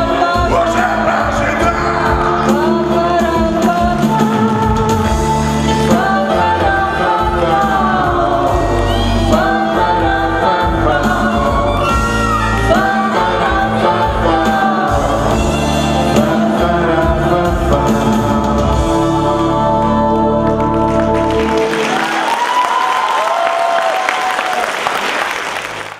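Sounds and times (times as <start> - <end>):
instrumental accompaniment: 0.0 - 22.3
man and woman singing duet: 0.0 - 22.7.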